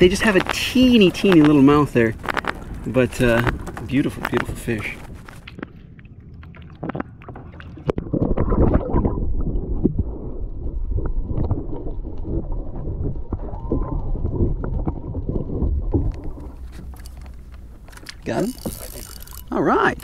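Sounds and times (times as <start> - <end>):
muffled underwater rumbling: 0.0 - 20.0
water sloshing and splashing: 0.0 - 20.0.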